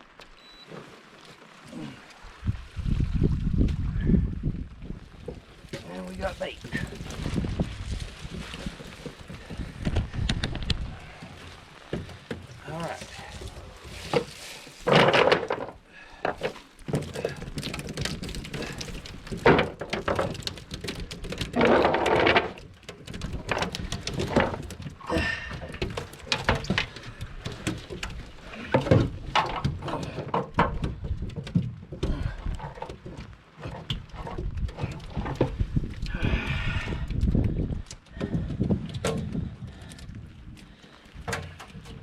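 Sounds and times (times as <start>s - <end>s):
thumps and clatter on boat deck: 5.2s - 42.0s.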